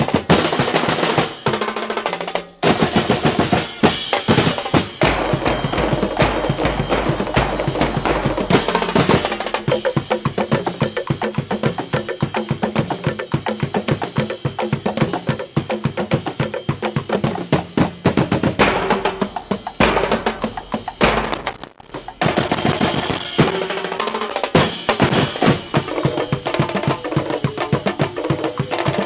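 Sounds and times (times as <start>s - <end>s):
percussion music with drum roll: 0.0s - 29.0s.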